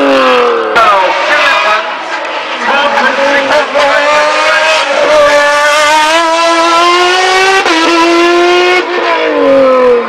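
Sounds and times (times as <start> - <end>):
race car engine at full throttle: 0.0 - 10.0.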